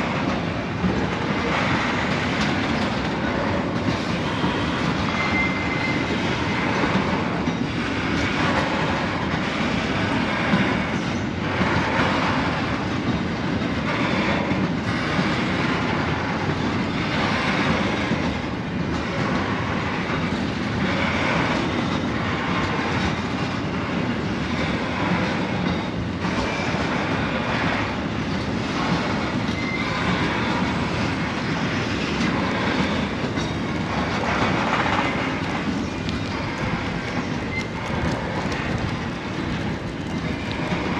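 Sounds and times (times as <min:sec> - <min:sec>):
freight train wheels rumbling on rail: 0:00.0 - 0:40.9.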